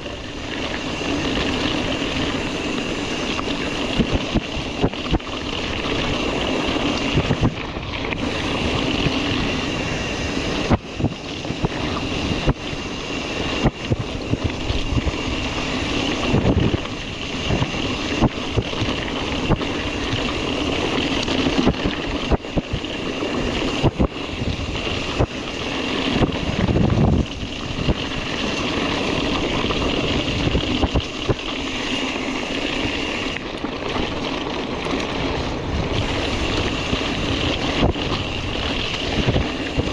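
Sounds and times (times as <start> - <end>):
wind on microphone: 0.0 - 31.7, 35.2 - 39.9
bike knocking and rattling: 0.0 - 39.9.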